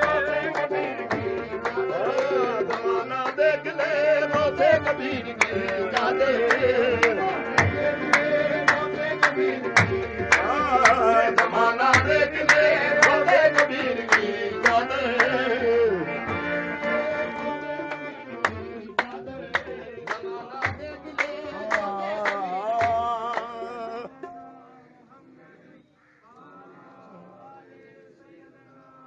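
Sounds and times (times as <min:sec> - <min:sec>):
person singing: 0:00.0 - 0:25.1.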